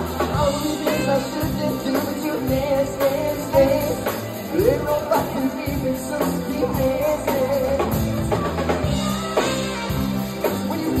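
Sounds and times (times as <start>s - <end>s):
live band playing: 0.0s - 11.0s.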